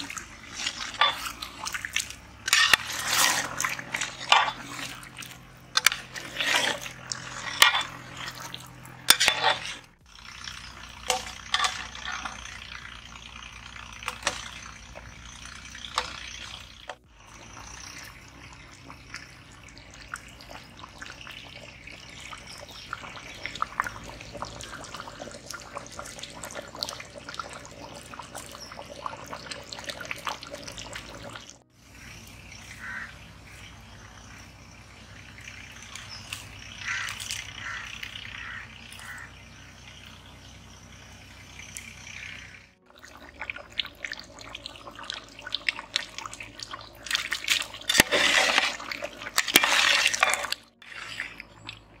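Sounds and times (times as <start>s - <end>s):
birds chirping faintly: 0.0s - 52.0s
gravy bubbling in a pot: 0.0s - 52.0s.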